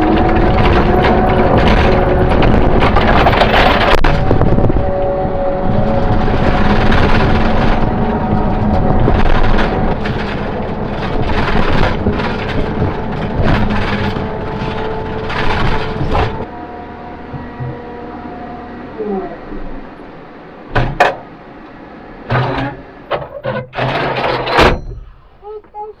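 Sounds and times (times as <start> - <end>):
skid steer engine running: 0.0 - 25.6.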